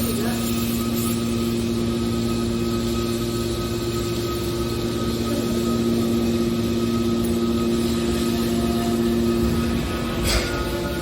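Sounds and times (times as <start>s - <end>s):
motor and hydraulic pump humming: 0.0s - 11.0s.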